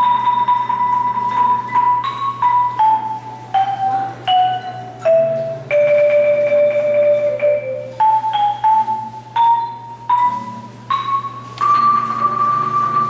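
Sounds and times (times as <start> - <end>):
xylophone melody: 0.0 - 13.0.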